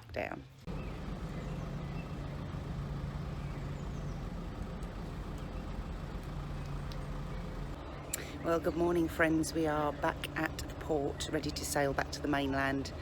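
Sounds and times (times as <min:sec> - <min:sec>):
engine droning: 0:00.6 - 0:13.0.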